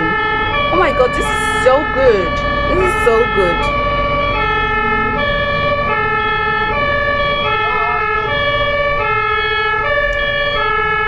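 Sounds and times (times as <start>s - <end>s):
low rumble of traffic: 0.0s - 11.0s
two-tone ambulance siren: 0.0s - 11.0s.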